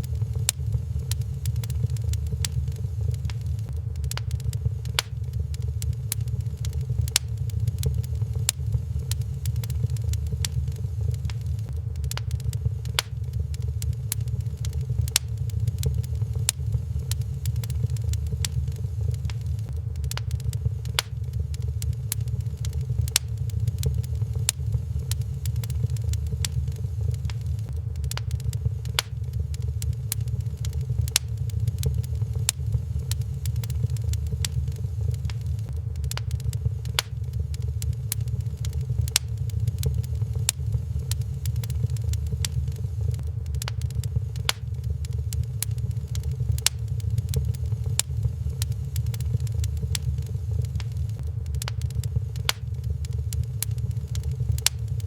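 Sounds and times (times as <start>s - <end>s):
low rumble: 0.0s - 55.0s
wood fire crackling: 0.0s - 55.0s.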